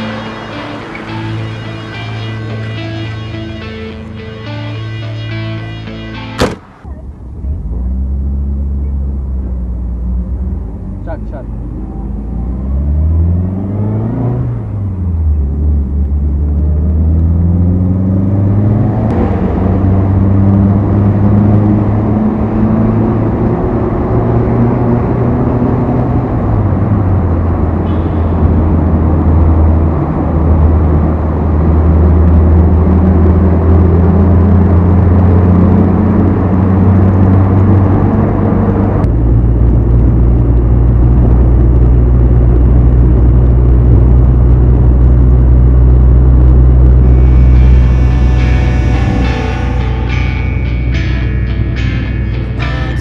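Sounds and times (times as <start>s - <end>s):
car engine: 0.0s - 53.0s
road noise: 0.0s - 53.0s.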